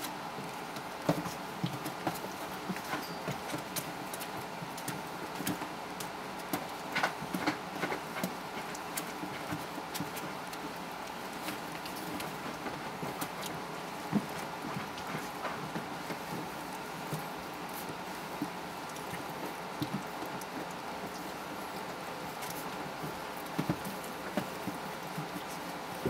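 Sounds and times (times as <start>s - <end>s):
puppy claws tapping and scuffling: 0.0s - 26.0s
steady background hum: 0.0s - 26.0s.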